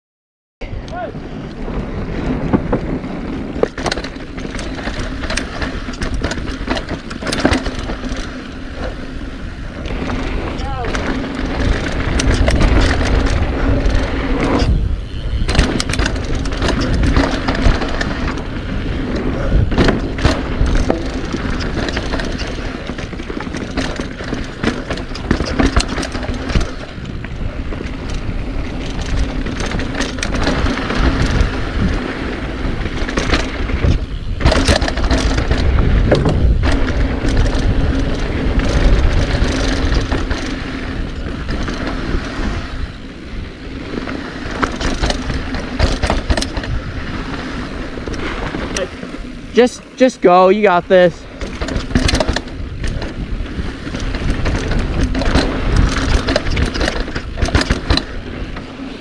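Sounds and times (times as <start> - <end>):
bike clattering and rattling: 0.6 - 59.0
tyre noise on dirt: 0.6 - 59.0.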